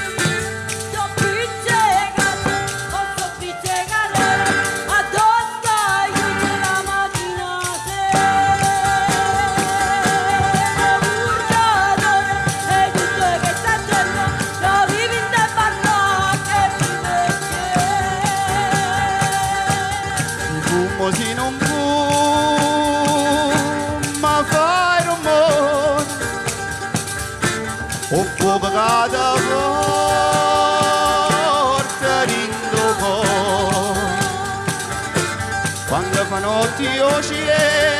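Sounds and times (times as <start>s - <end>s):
person singing: 0.0s - 26.4s, 28.0s - 37.9s
mandolin: 0.0s - 37.9s.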